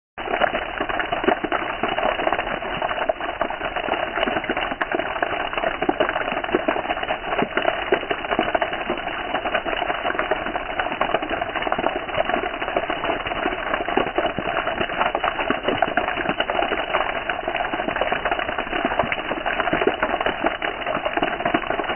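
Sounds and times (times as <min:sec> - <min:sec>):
rain falling steadily: 0:00.2 - 0:21.9.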